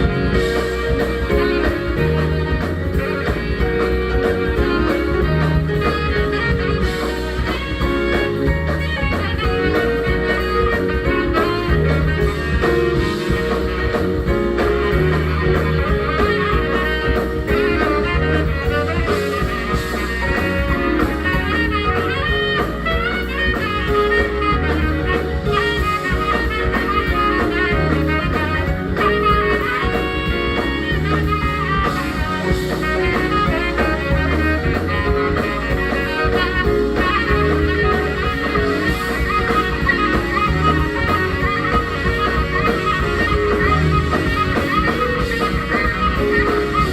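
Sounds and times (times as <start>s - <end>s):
jazz band playing: 0.0s - 46.9s
saxophone melody: 0.0s - 46.9s.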